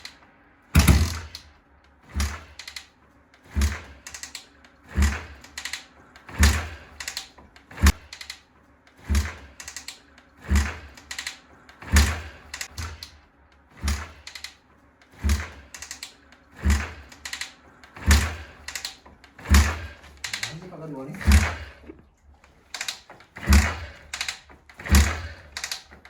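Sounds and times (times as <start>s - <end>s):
motorcycle kick-starter thumps and clicks: 0.8s - 1.5s, 2.1s - 20.6s, 22.7s - 26.0s.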